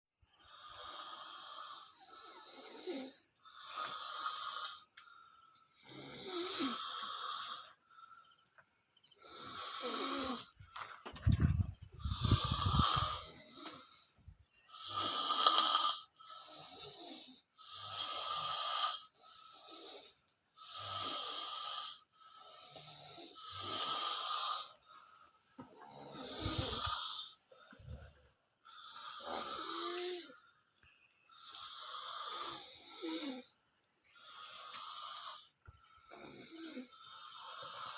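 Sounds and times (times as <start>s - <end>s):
person snoring: 0.3s - 8.4s, 9.0s - 30.5s, 31.2s - 37.9s.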